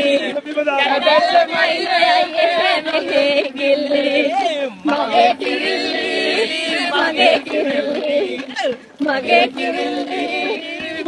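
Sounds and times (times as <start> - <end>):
group of people singing: 0.0 - 11.0.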